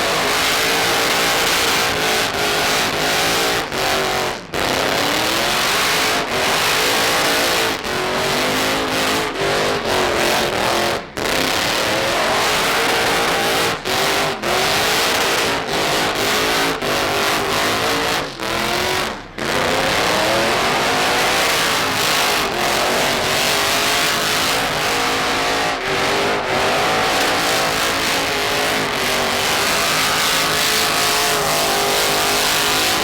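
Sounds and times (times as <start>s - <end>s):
diesel truck engines revving: 0.0s - 33.0s.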